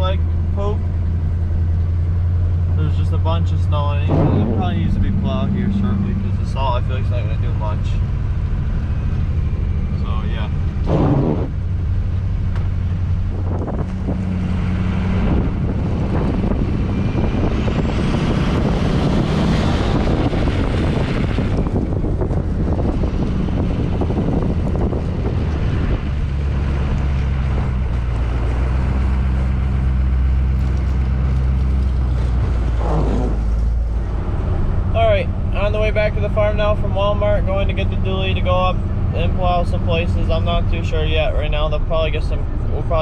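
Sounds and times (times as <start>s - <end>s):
road and wind noise: 0.0s - 43.0s
truck engine running: 0.0s - 43.0s.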